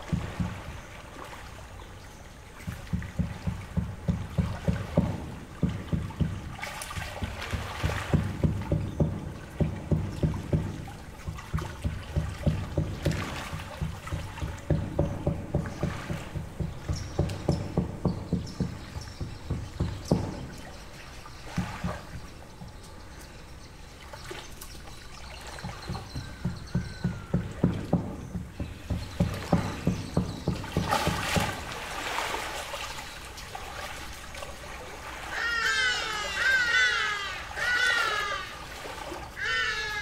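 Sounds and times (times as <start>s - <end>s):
waves lapping against shore: 0.0s - 40.0s.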